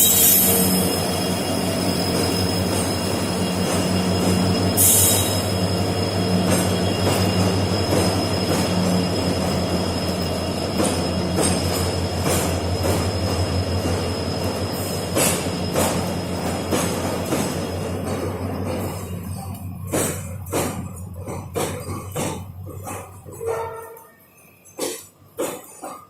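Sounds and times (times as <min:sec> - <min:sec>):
high steady squeal: 0:00.0 - 0:24.7
freight train rumble: 0:00.0 - 0:26.0
wheels clattering on rails: 0:00.0 - 0:26.0.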